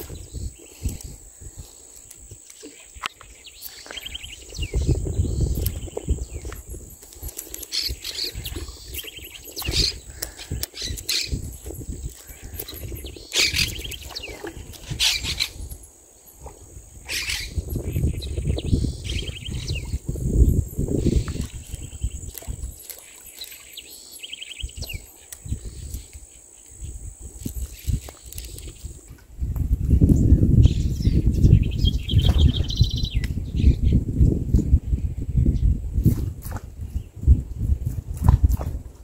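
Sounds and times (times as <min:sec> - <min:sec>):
wind buffeting microphone: 0:00.0 - 0:23.4, 0:24.3 - 0:39.0
birds chirping and trilling: 0:00.0 - 0:29.1, 0:29.8 - 0:34.1.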